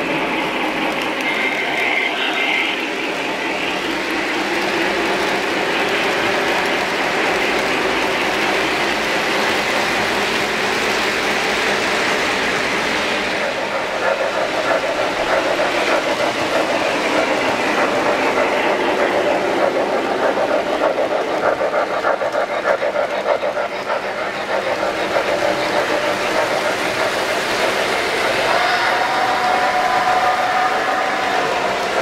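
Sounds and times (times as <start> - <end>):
model train wheels clattering: 0.0 - 32.0.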